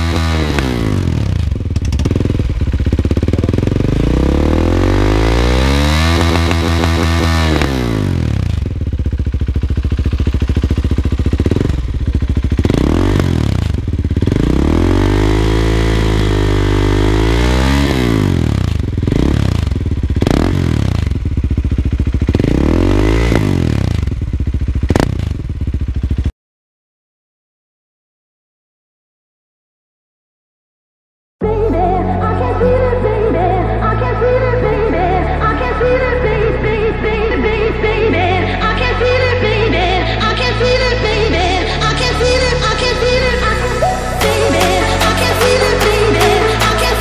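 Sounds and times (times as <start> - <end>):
motorcycle engine revving: 0.0 - 26.3, 31.4 - 47.0.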